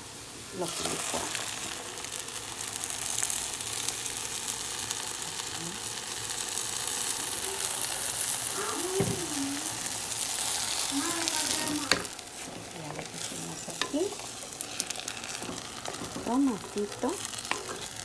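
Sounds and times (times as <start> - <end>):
food sizzling in a hot pan: 0.0 - 18.0.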